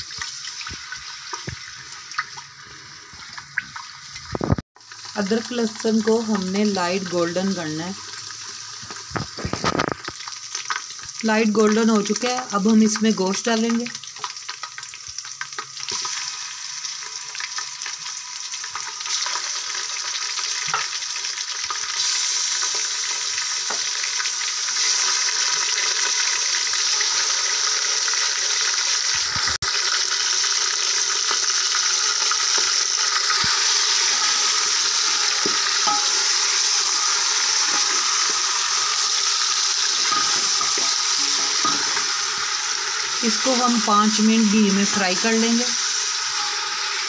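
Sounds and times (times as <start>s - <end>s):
meat sizzling in hot fat: 0.0s - 47.0s.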